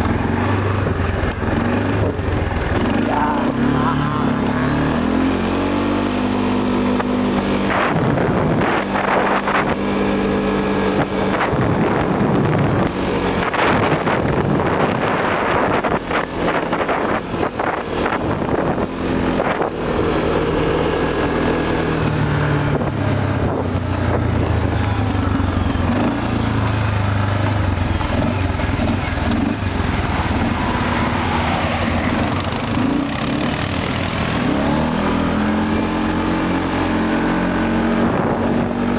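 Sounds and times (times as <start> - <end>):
off-road vehicle engine: 0.0 - 38.9.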